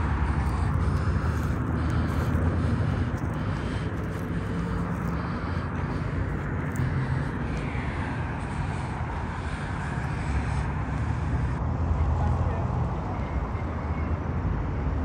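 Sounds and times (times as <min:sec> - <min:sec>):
low rumble of road traffic: 0:00.0 - 0:15.0
vehicles passing: 0:00.0 - 0:15.0.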